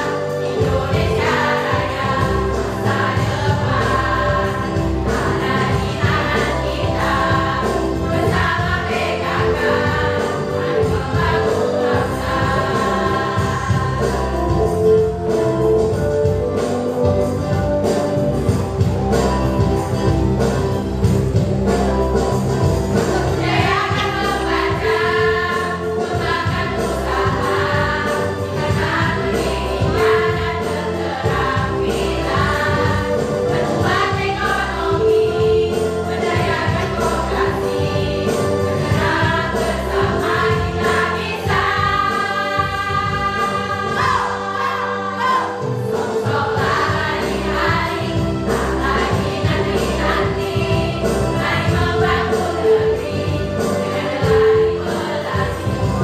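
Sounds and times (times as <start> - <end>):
backing track instruments: 0.0 - 56.0
choir singing a jingle: 0.0 - 56.0.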